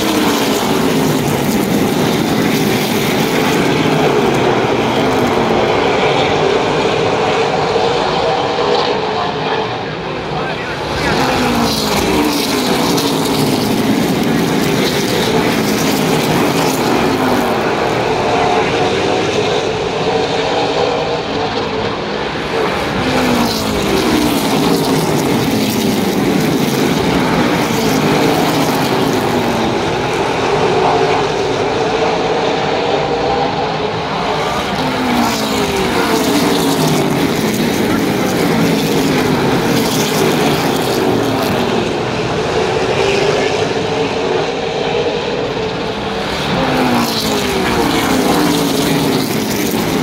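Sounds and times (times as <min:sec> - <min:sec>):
race car engines passing: 0:00.0 - 0:50.0.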